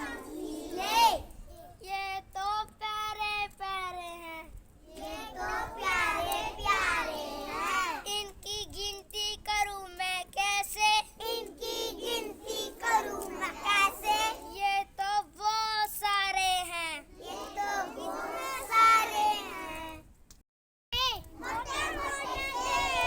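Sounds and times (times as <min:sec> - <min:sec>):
child singing a rhyme: 0:00.0 - 0:20.1, 0:21.0 - 0:23.0.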